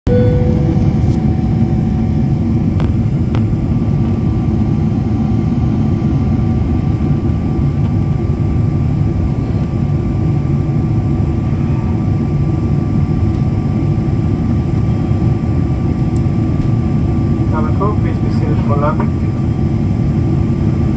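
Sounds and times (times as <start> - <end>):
airliner engine rumble: 0.1 - 20.9
faint steady whine: 0.1 - 20.9.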